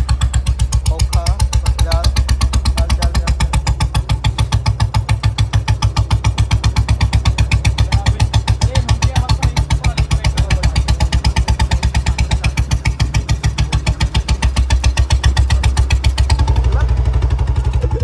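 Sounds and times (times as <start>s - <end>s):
motorcycle engine thumping: 0.0s - 18.0s.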